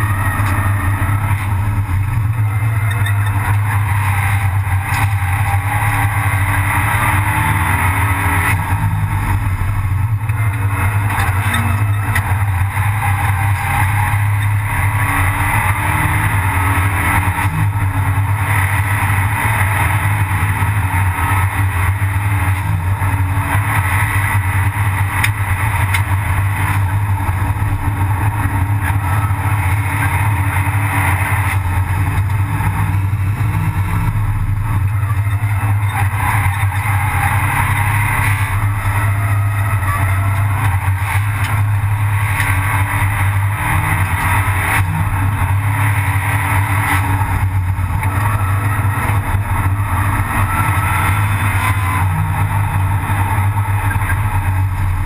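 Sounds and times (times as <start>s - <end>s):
race car engine running hard: 0.0s - 55.0s
road and wind noise: 0.0s - 55.0s.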